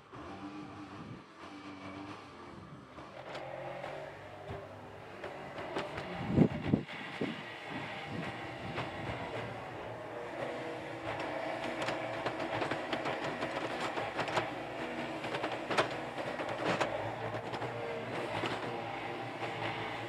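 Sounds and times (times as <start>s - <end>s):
excavator diesel engine under load: 0.0s - 20.0s.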